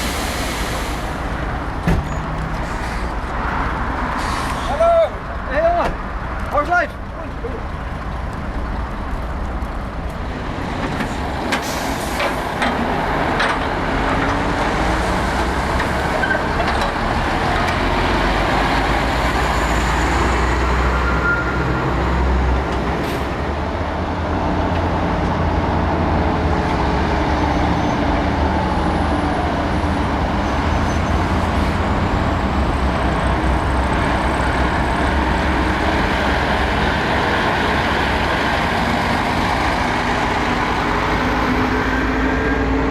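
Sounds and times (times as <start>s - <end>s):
diesel truck engines rumbling: 0.0s - 42.9s.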